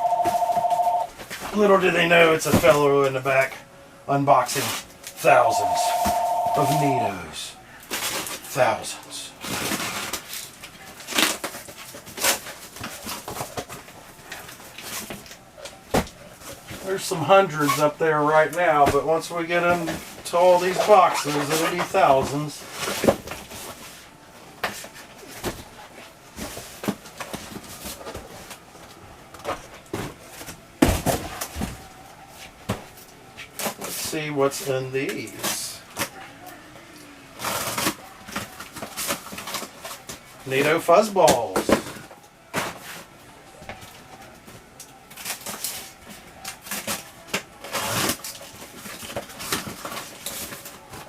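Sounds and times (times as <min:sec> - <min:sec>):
cardboard packaging rustling: 0:04.6 - 0:36.2, 0:37.4 - 0:51.0.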